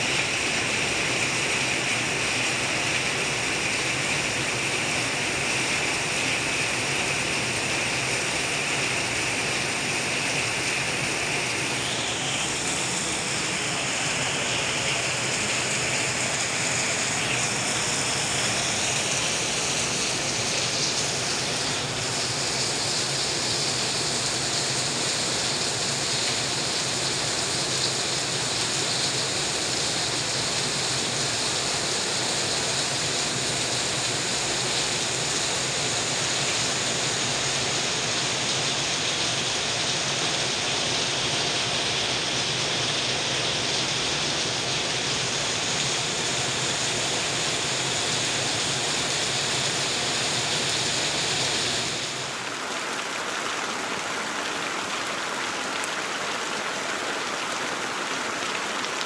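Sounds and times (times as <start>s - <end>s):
heavy rain falling: 0.0s - 59.0s
runoff pouring off roof: 0.0s - 59.0s.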